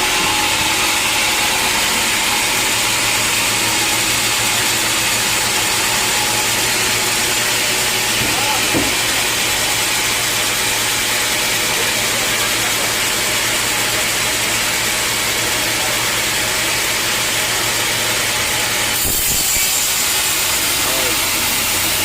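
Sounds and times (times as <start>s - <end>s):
sawmill machinery hum and hiss: 0.0s - 22.0s.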